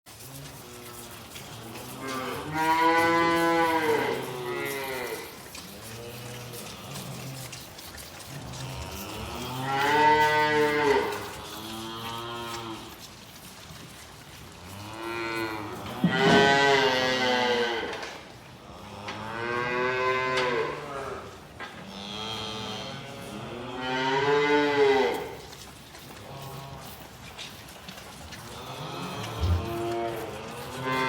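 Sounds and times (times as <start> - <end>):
calves mooing: 0.1 - 13.6, 14.4 - 31.0.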